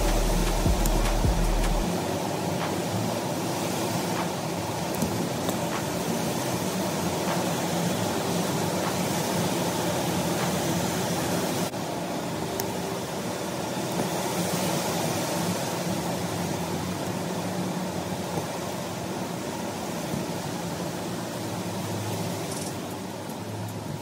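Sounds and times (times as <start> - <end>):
mechanical whirring hum: 0.0 - 24.0.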